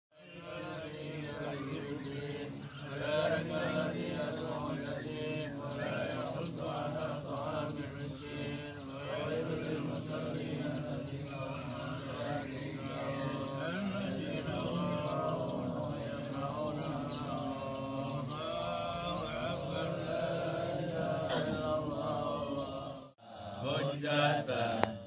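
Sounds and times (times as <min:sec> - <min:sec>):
men chanting prayers: 0:00.1 - 0:25.0.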